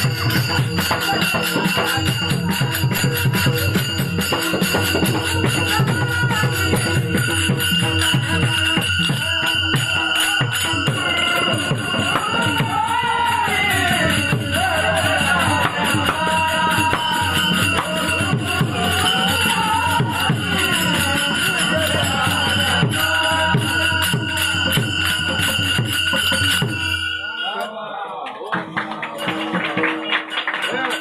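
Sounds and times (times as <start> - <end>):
voices singing a chant: 0.0 - 26.4
barrel drum played by hand: 0.0 - 26.8
hand cymbals jingling: 0.0 - 27.8.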